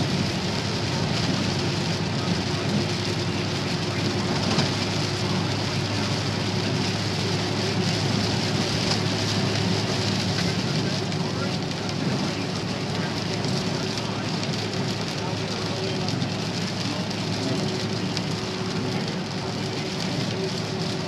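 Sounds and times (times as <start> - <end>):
low engine drone: 0.0 - 21.0
rain and tyre spray on wet road: 0.0 - 21.0.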